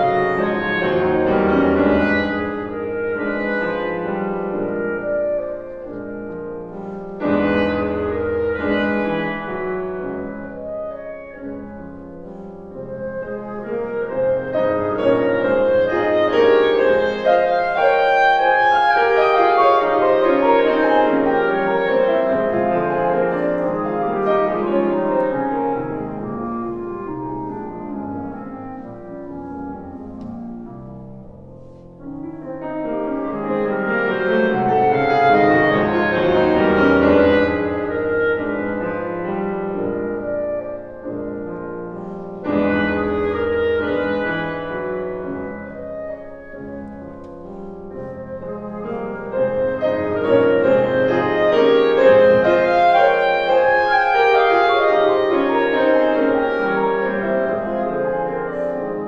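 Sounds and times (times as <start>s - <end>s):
clarinet: 0.0s - 59.0s
grand piano: 0.0s - 59.0s.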